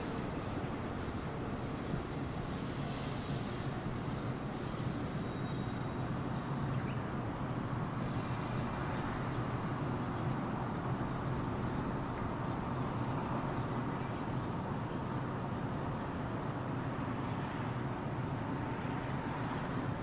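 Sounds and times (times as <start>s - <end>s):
electric train hum and rumble: 0.0s - 20.0s.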